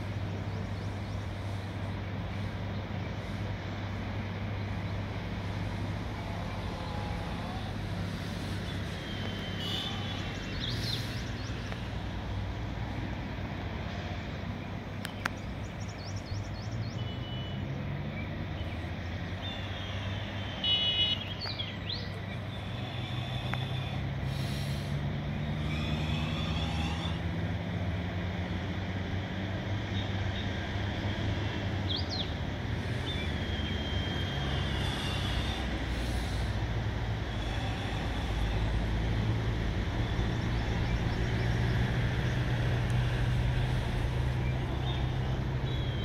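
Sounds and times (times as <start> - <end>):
low engine hum: 0.0 - 46.0.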